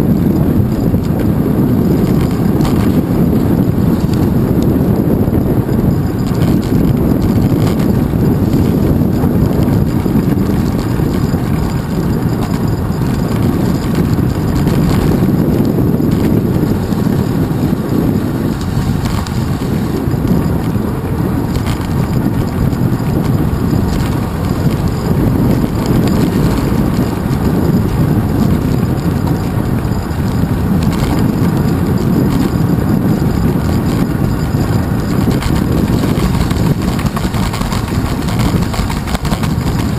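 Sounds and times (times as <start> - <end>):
bicycle road noise: 0.0 - 39.9
wind buffeting microphone: 0.0 - 39.9.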